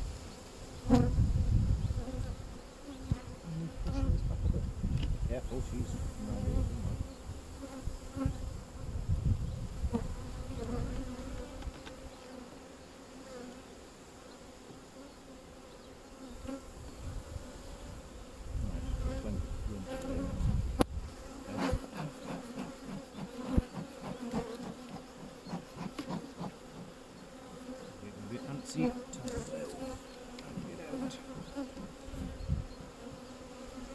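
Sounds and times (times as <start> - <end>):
bees buzzing: 0.0 - 4.6, 5.4 - 33.9.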